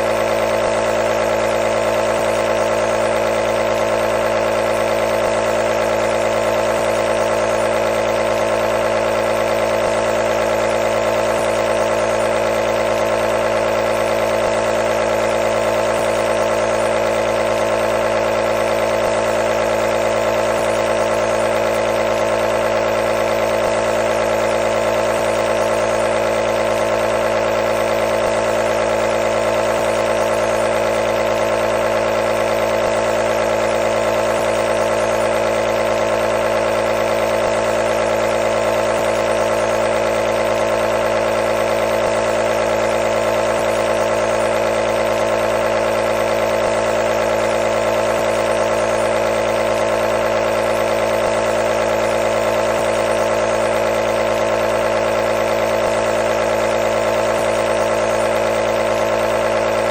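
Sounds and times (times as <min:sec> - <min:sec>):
nebulizer humming: 0:00.0 - 0:59.9.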